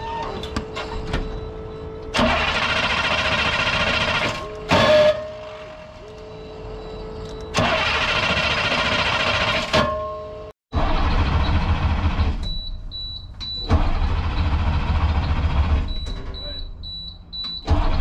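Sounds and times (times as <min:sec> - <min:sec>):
diesel engine cranking: 0:00.0 - 0:09.8, 0:10.7 - 0:18.0.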